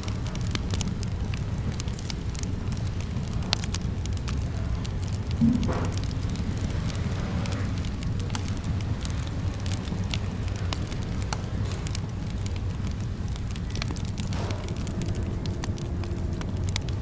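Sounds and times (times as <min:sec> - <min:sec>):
fire pops and snaps: 0:00.0 - 0:17.0
low rumble of flames: 0:00.0 - 0:17.0.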